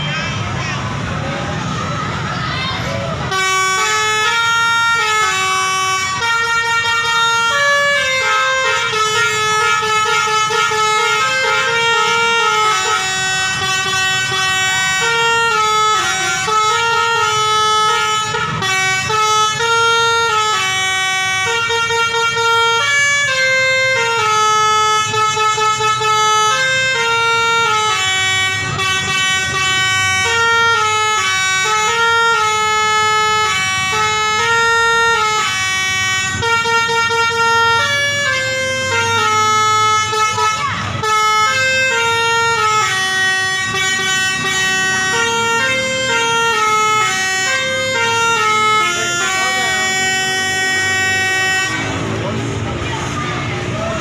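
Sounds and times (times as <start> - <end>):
musical air horns playing a tune: 3.3 - 52.6.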